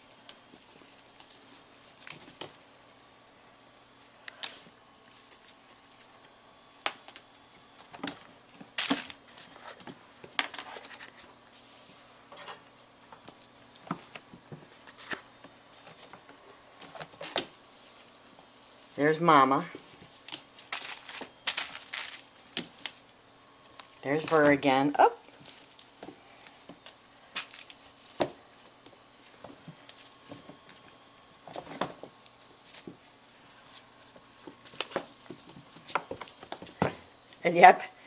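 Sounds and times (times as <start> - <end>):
kittens tapping and scrabbling: 0.0 - 11.3, 12.3 - 37.4.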